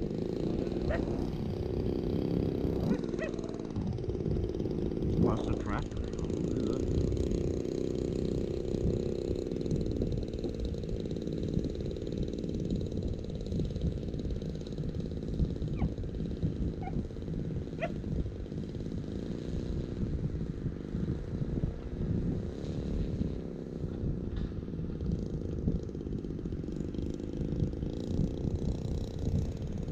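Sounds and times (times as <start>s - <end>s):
model plane engine idling: 0.0s - 29.9s.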